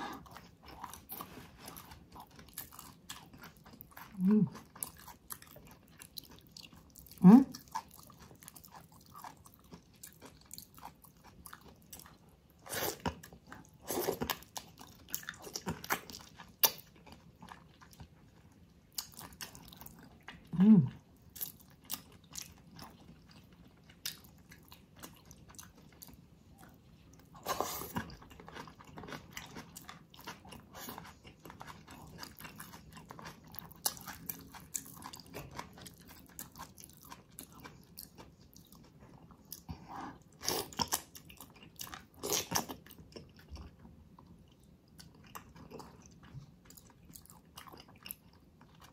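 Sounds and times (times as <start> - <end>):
chewing with crisp crunches: 0.0 - 48.9.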